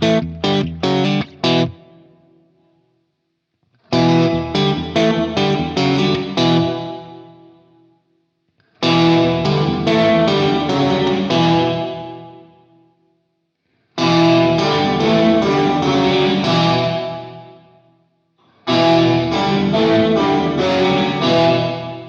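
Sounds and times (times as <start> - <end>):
electric guitar strummed chords: 0.0 - 2.4, 3.8 - 7.7, 8.6 - 12.8, 14.0 - 17.8, 18.6 - 22.0.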